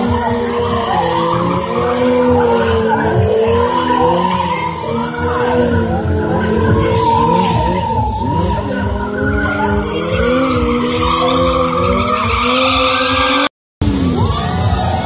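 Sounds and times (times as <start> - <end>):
motorcycle engines revving: 0.0 - 15.0
tyres skidding on asphalt: 0.0 - 15.0.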